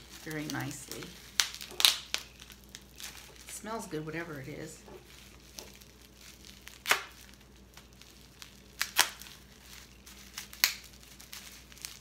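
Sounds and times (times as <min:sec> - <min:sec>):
bubble wrap cracks: 0:00.0 - 0:12.0
bubble wrap crinkling: 0:00.0 - 0:12.0.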